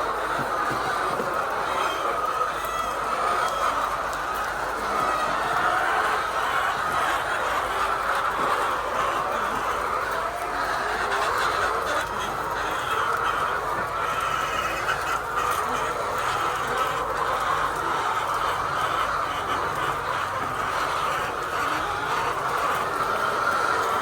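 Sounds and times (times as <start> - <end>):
hens clucking and squawking: 0.0 - 24.0.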